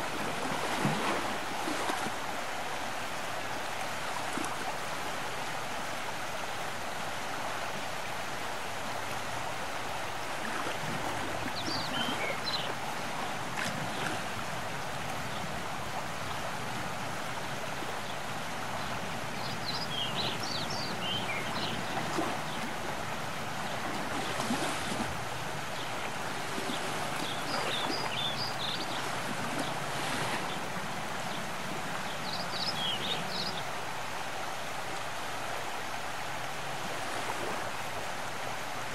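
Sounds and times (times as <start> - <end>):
rushing shore ambience: 0.0 - 38.9.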